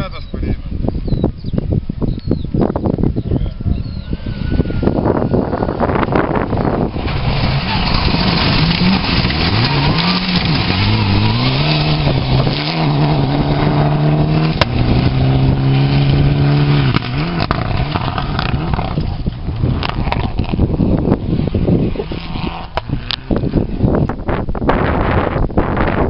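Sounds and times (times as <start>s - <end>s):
rally car engine at full throttle: 4.2s - 25.6s.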